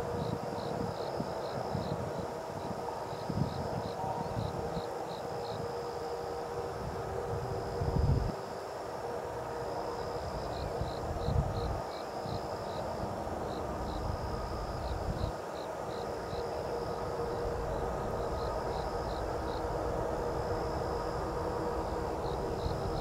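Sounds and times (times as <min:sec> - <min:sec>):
faint steady hum: 0:00.0 - 0:23.0
insects chirping in pulses: 0:00.0 - 0:23.0.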